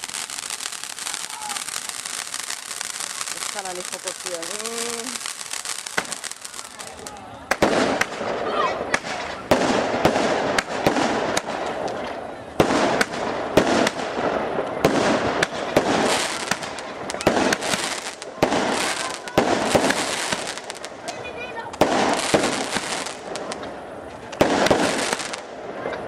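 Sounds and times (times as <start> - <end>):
crackling hiss of bursting shells: 0.0 - 26.0
fireworks bangs: 0.0 - 26.0.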